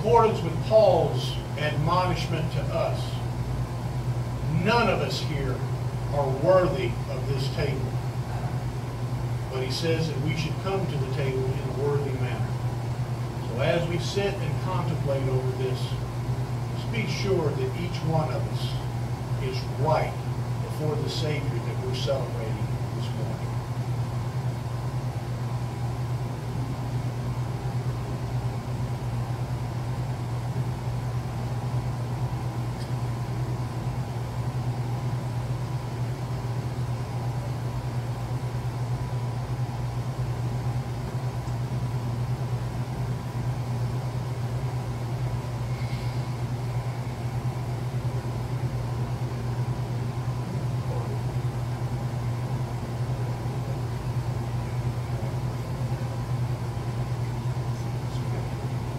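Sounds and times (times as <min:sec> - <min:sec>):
air conditioner humming: 0:00.0 - 0:58.9.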